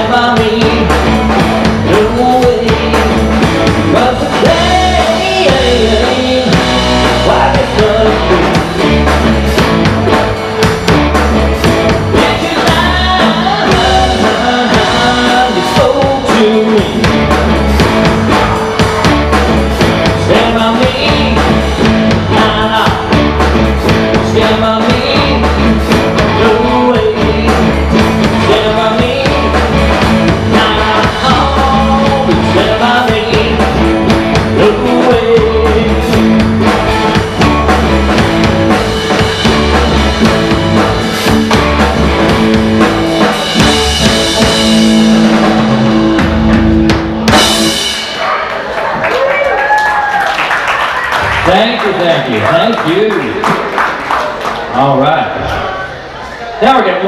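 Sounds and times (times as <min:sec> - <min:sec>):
live rock band playing: 0:00.0 - 0:54.7.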